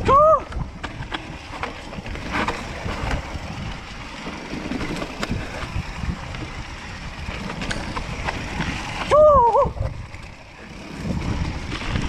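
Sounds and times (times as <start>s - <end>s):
wind on microphone: 0.0s - 4.1s, 4.8s - 12.0s
bike tyres rumbling on dirt: 0.2s - 12.0s
bike frame and chain rattling: 1.0s - 12.0s.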